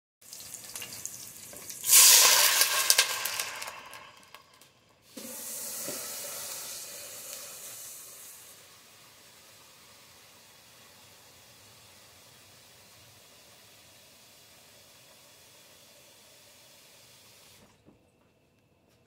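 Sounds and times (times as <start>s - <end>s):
loud sizzling and hissing in pot: 0.2s - 17.6s
soft steady hiss from pot: 0.2s - 17.9s.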